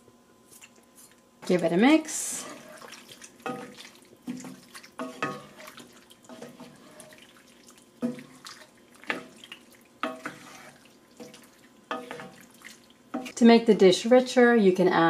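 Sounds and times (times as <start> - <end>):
wet squelches of stirring sauce: 0.4 - 13.4.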